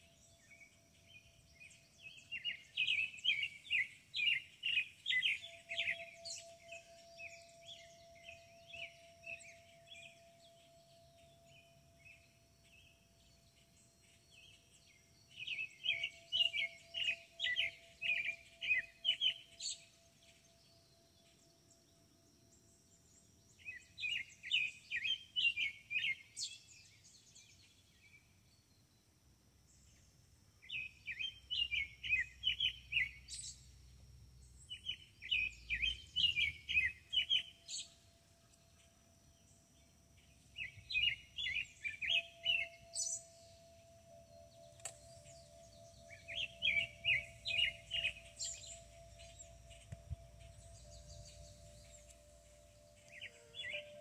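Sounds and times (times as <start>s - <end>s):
songbird chirping song: 0.0s - 54.0s.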